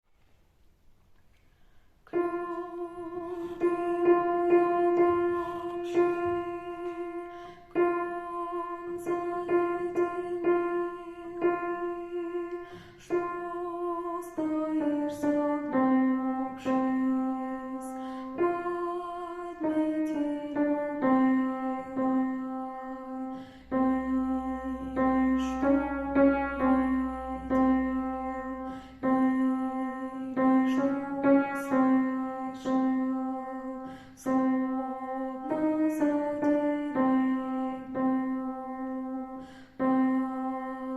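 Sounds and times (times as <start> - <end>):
piano accompaniment: 2.1 - 40.9
slow melody of long held notes: 2.1 - 40.9.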